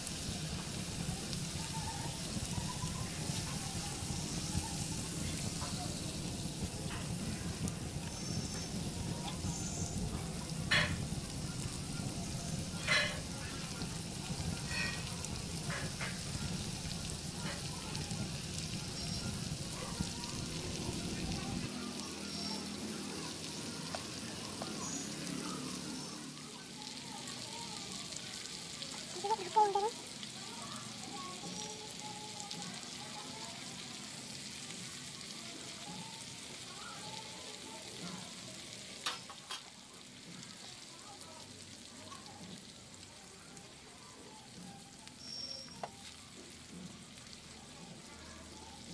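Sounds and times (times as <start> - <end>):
chicken sizzling in a pan: 0.0 - 48.9.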